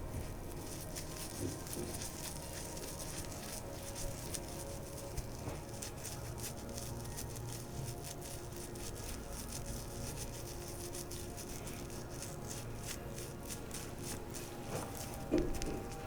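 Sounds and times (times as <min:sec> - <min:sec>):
oily hands rubbing skin: 0:00.0 - 0:16.0.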